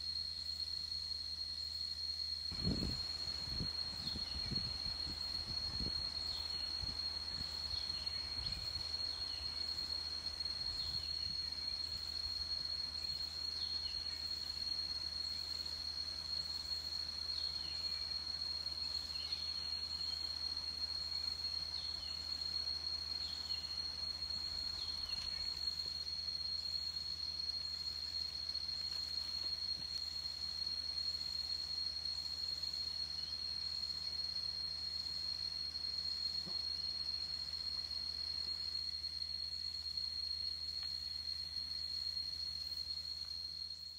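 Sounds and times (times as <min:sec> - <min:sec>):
cicadas droning: 0:00.0 - 0:43.9.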